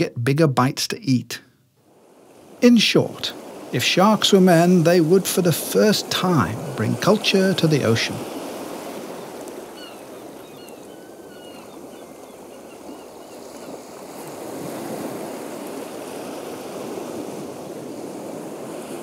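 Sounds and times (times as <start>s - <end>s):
waves rushing: 0.0s - 19.0s.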